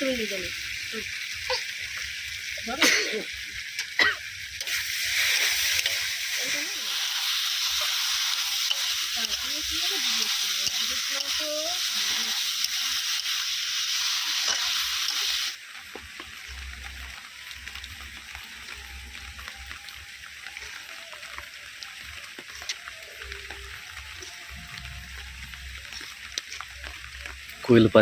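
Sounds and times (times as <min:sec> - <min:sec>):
hot oil sizzling in a pan: 0:00.0 - 0:28.0.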